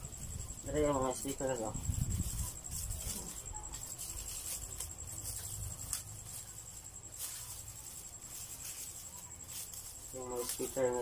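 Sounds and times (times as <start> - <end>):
plastic wrapping crinkling: 0.7 - 11.0.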